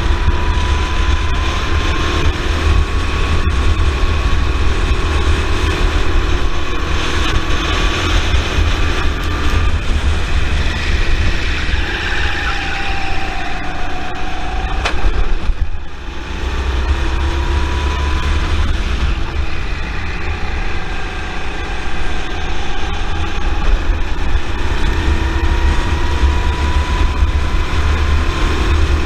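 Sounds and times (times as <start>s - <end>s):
kart engine running hard: 0.0s - 29.0s
wind rumble on microphone: 0.0s - 29.0s.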